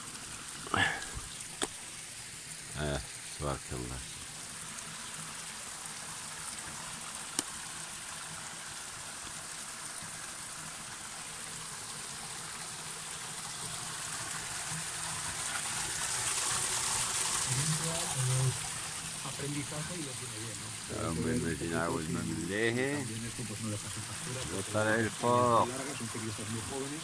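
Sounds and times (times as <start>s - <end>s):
spring water trickling over stones: 0.0s - 27.0s.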